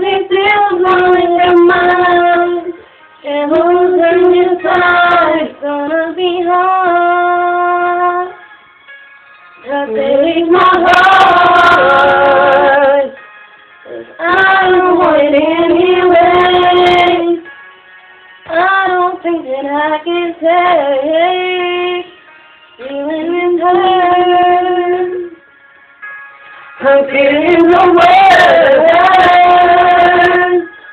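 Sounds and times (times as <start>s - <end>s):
woman and girl singing: 0.0s - 8.4s, 9.6s - 13.2s, 13.9s - 17.5s, 18.5s - 22.1s, 22.8s - 25.4s, 26.8s - 30.7s.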